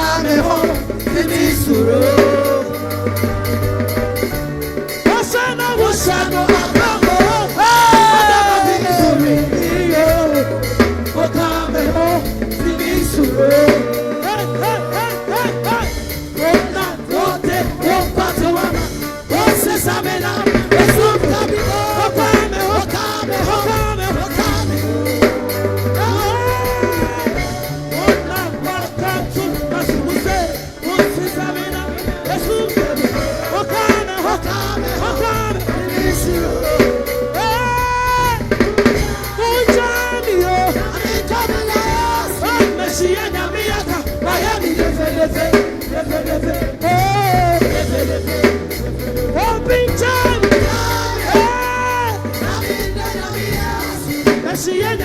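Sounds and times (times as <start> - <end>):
drum kit with snare: 0.0 - 55.0
person singing: 0.0 - 55.0
steady bass line: 0.0 - 55.0.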